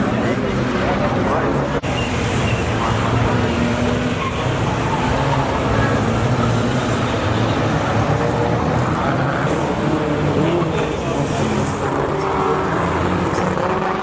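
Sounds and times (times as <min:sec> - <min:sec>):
car engines running: 0:00.0 - 0:14.0
traffic noise: 0:00.0 - 0:14.0.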